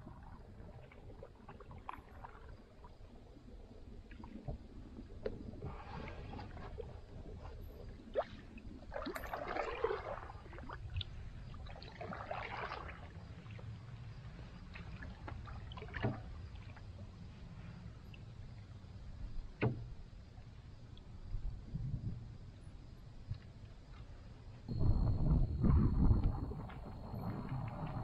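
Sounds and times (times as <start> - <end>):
paddle swishing through water: 0.0 - 20.6, 25.6 - 28.0.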